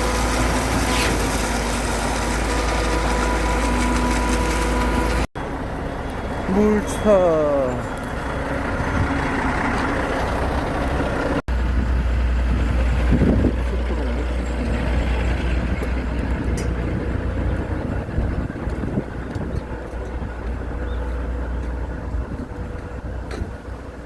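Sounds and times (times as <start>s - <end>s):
road noise: 0.0s - 24.0s
truck engine rumbling: 0.0s - 24.0s.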